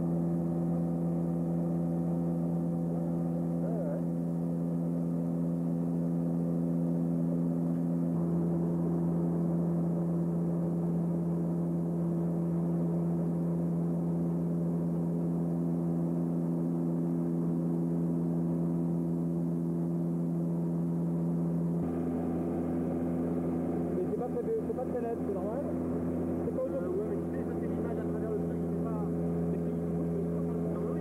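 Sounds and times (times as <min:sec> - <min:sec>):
turboprop cabin drone: 0:00.0 - 0:31.0.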